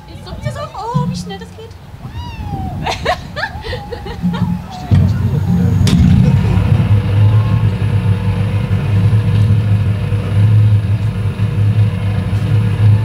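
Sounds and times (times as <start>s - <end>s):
low rumble of motorway traffic: 0.0s - 13.0s.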